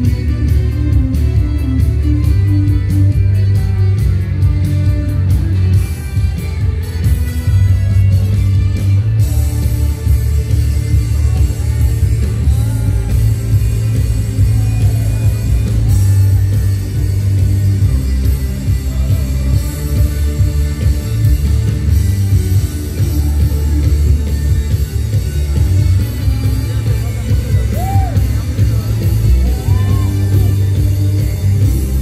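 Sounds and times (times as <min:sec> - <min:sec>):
rock backing track: 0:00.0 - 0:32.0.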